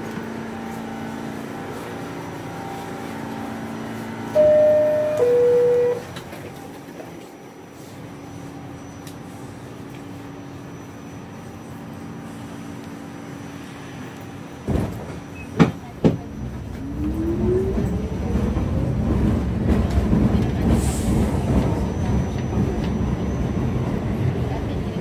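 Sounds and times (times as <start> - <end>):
subway car low hum: 0.0 - 25.0
wheels rumbling on rail: 0.0 - 25.0.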